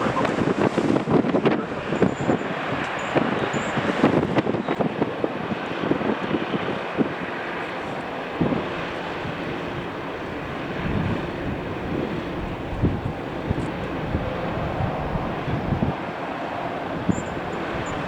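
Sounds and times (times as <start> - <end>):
jet engines rushing: 0.0 - 18.0
wind buffeting microphone: 0.0 - 18.0.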